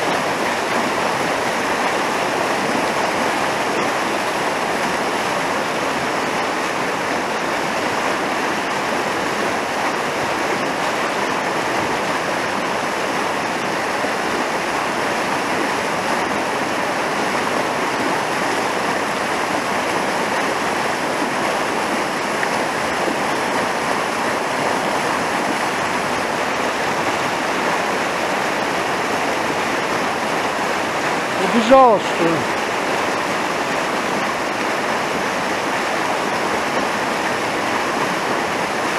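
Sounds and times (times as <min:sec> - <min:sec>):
river rushing over rapids: 0:00.0 - 0:38.9.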